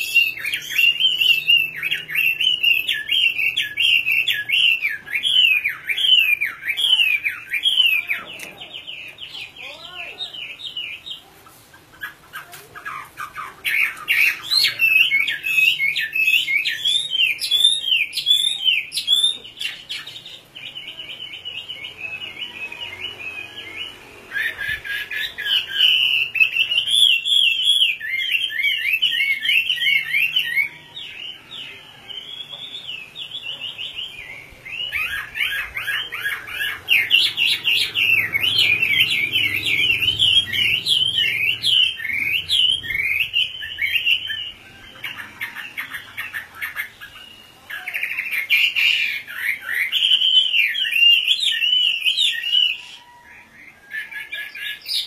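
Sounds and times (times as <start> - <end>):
laughing thrush singing whistled phrases: 0.0 - 11.3, 12.0 - 55.0.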